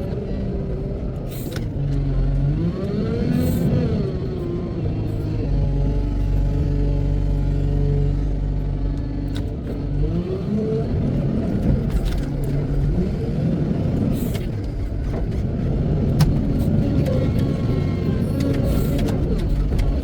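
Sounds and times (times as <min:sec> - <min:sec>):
wheel loader diesel engine revving: 0:00.0 - 0:20.0.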